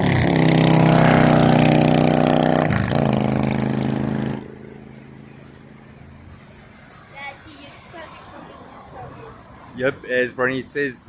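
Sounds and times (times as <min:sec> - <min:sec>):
vehicle engine running: 0:00.0 - 0:09.7
outdoor background: 0:00.0 - 0:11.0.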